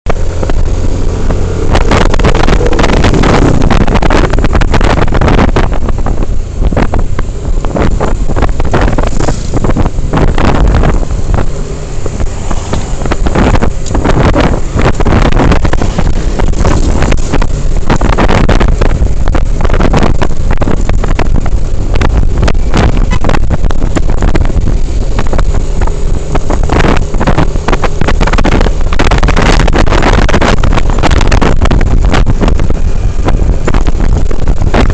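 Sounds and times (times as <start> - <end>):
vehicle engine running: 0.0 - 34.9
wind buffeting microphone: 0.1 - 34.9.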